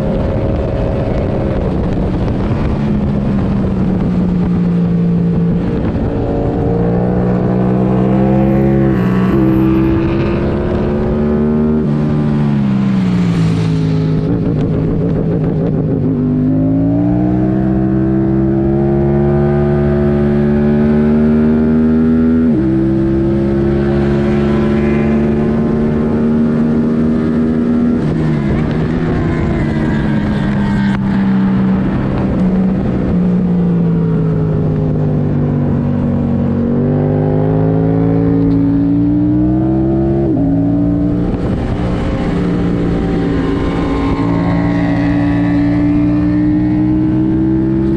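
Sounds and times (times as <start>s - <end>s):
motorcycle engine revving through gears: 0.0s - 47.9s.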